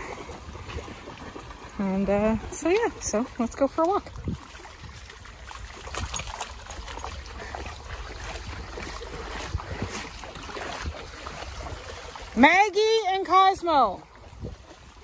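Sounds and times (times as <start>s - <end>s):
wind rumbling on microphone: 0.0s - 12.4s, 13.9s - 15.0s
dogs splashing through water: 0.0s - 15.0s
stream rushing: 0.0s - 15.0s.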